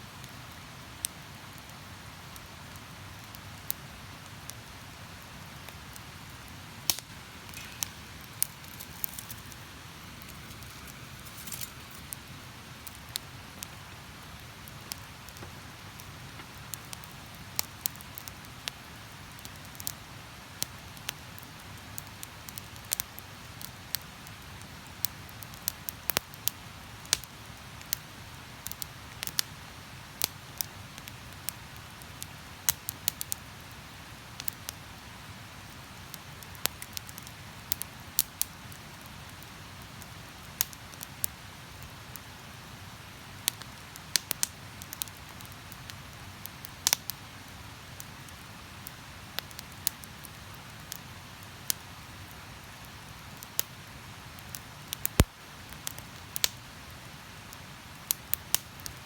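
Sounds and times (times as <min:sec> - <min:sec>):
steady background hiss: 0:00.0 - 0:59.0
campfire crackling and popping: 0:00.2 - 0:59.0.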